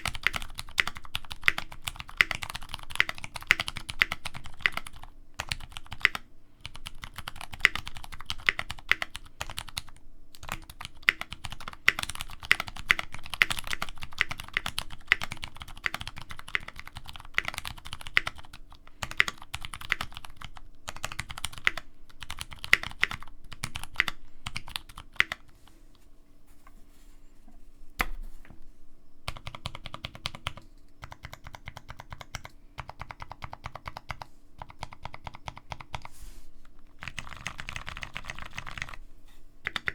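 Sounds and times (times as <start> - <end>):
mechanical keyboard typing: 0.0 - 25.5, 29.3 - 36.1, 37.0 - 39.0, 39.6 - 39.9.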